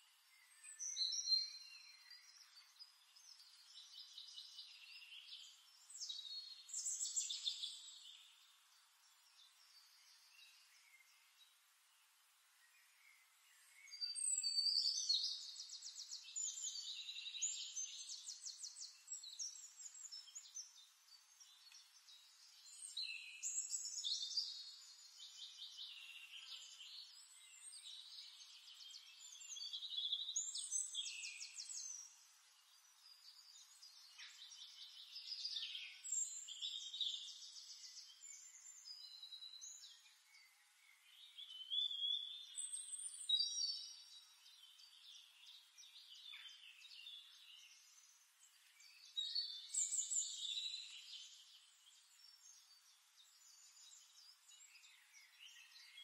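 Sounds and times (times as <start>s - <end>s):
songbird trilling and chirping: 0.4s - 11.3s, 13.5s - 56.0s.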